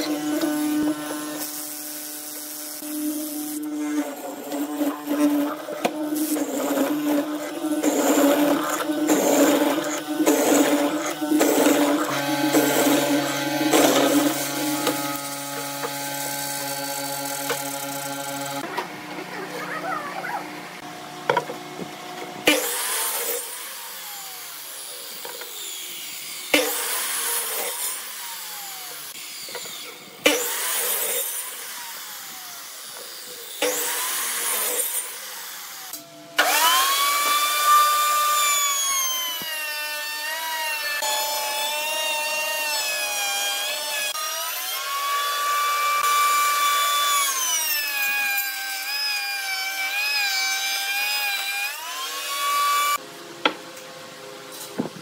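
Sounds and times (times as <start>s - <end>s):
miter saw cutting wood: 0.0s - 53.9s
router motor whining: 0.0s - 53.9s.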